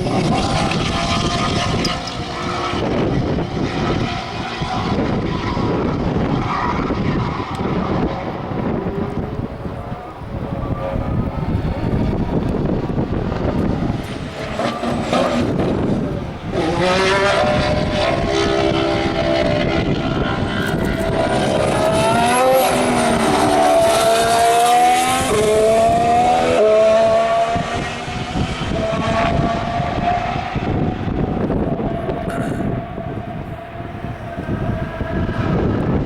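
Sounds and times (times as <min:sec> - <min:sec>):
noisy rush: 0:00.0 - 0:36.0
racing car accelerating: 0:00.0 - 0:36.0.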